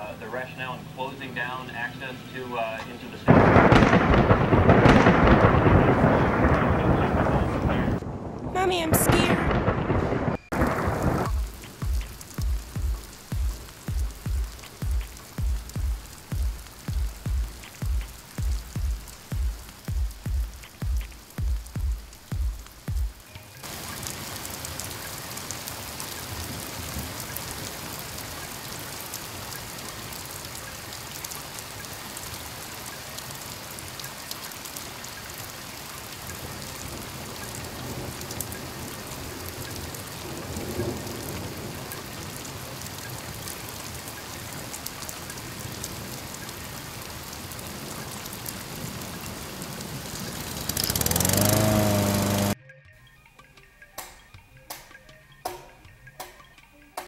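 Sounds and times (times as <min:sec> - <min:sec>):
steady rain: 0:00.0 - 0:52.6.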